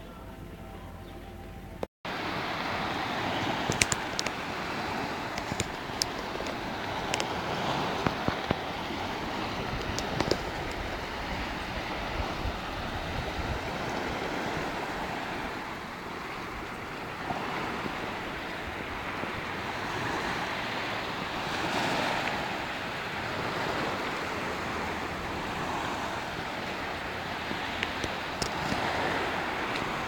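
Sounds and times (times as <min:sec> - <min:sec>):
small waves washing onto beach: 0:02.1 - 0:30.0
wind rumbling on microphone: 0:02.1 - 0:30.0.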